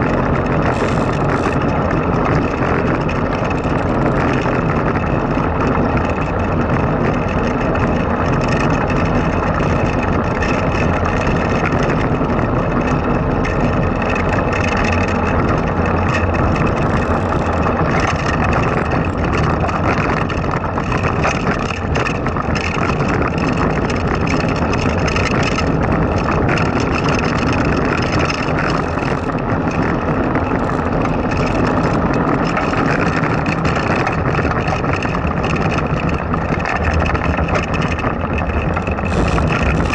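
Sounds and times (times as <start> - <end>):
wheels rumbling on asphalt: 0.0 - 39.9.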